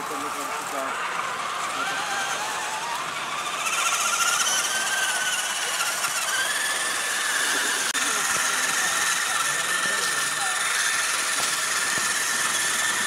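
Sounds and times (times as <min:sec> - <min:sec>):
rc truck motors whining: 0:00.0 - 0:13.0.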